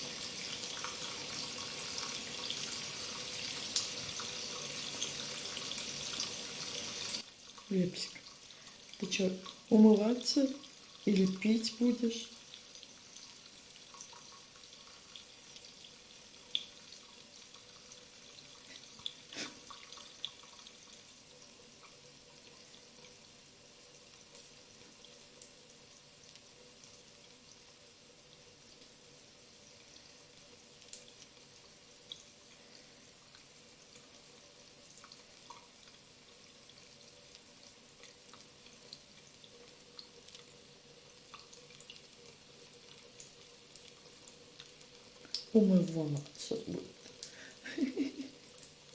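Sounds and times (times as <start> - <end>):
tap water running into sink: 0.0 - 27.8, 29.7 - 48.9.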